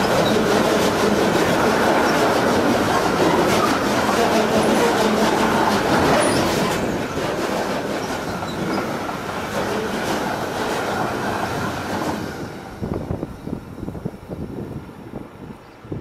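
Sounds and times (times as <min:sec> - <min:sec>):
freight train wheels on rails: 0:00.0 - 0:15.9.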